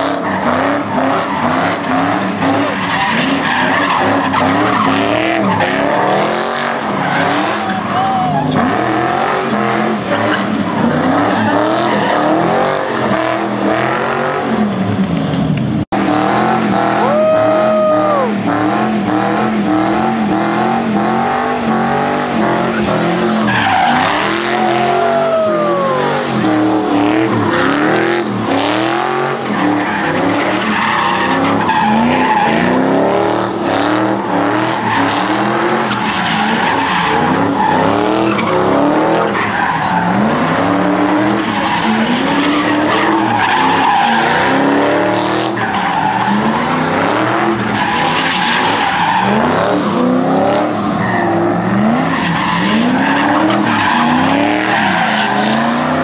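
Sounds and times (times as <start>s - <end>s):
car engine revving: 0.0s - 56.0s
tyres screeching on pavement: 0.1s - 13.1s, 21.8s - 33.7s, 34.4s - 56.0s.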